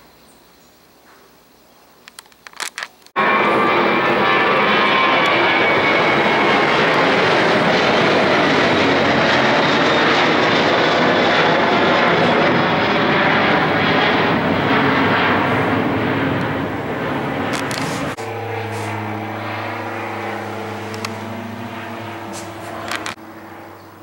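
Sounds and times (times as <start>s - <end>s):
jet airliner roaring overhead: 3.2s - 24.0s.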